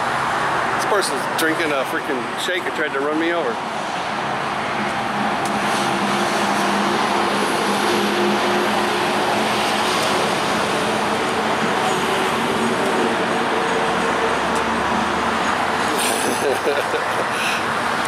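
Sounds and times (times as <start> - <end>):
road traffic rush: 0.0 - 18.0.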